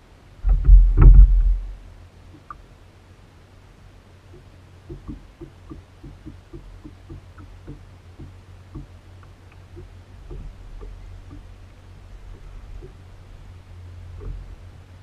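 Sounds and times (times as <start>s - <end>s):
low rumble: 0.0s - 2.2s, 4.3s - 15.0s.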